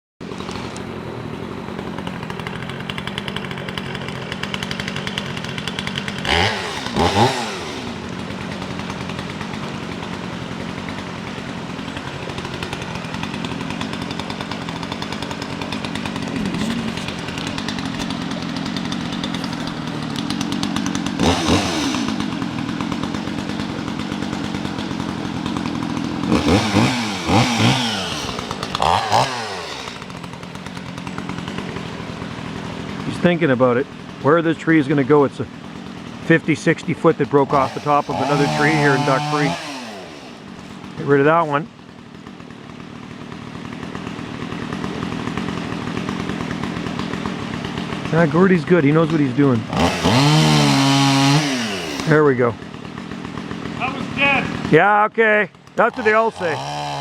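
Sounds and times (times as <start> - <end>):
chainsaw engine idling and revving: 0.2 - 57.0.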